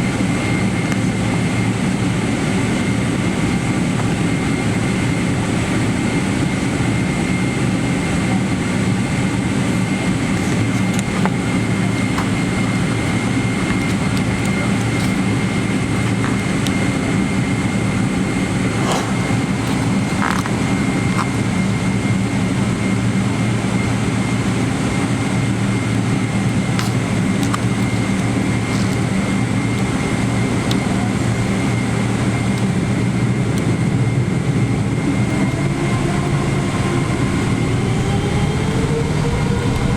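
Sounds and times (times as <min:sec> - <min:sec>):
jet engines droning: 0:00.0 - 0:39.9
thin steady whine: 0:00.0 - 0:39.9.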